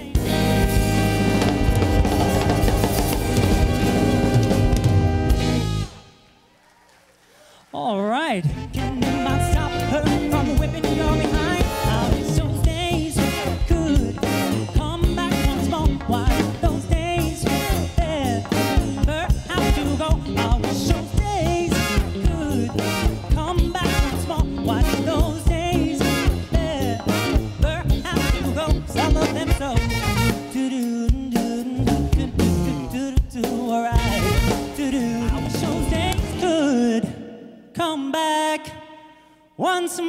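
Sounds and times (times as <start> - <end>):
man singing: 0.0 - 0.6, 7.8 - 40.0
steady drum beat: 0.0 - 5.8, 8.5 - 36.4
live band playing upbeat song: 0.0 - 6.2, 8.4 - 37.1.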